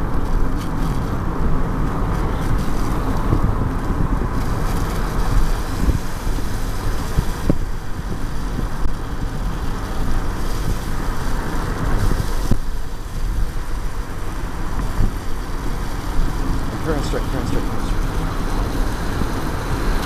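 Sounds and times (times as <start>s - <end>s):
car road rumble: 0.0s - 20.0s
tyre hiss on wet pavement: 0.1s - 20.0s.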